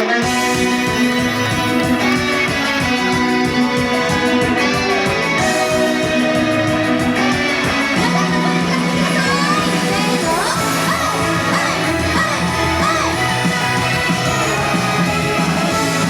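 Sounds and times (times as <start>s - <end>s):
electric guitar: 0.0s - 16.0s
pop-rock music: 0.0s - 16.0s
steady drum beat: 0.2s - 16.0s.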